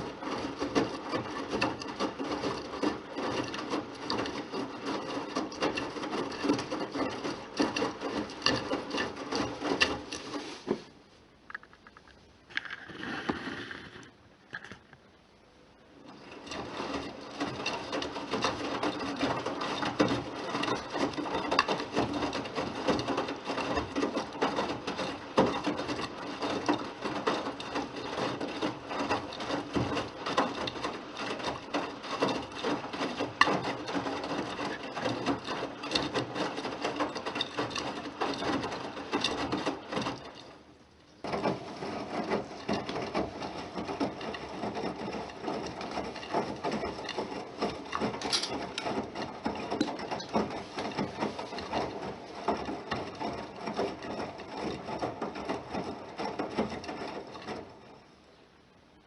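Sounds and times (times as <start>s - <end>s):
washing machine drum tumbling laundry: 0.0s - 11.4s, 15.1s - 59.0s.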